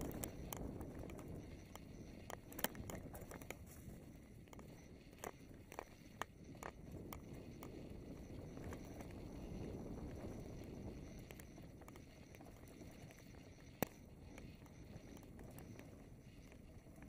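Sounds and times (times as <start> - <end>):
small ticks and rattles: 0.0 - 17.0.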